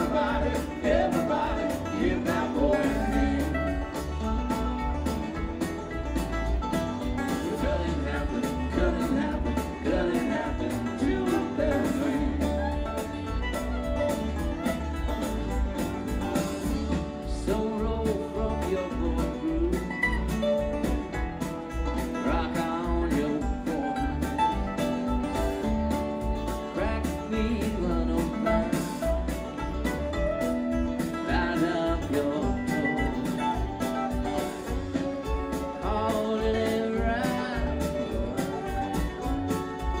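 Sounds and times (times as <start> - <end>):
bluegrass song with singer and guitar: 0.0 - 40.0.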